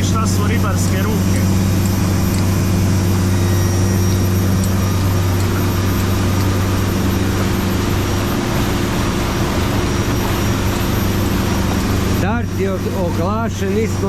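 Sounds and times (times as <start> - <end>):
boat engine humming: 0.0 - 14.0
rushing water wash: 0.0 - 14.0.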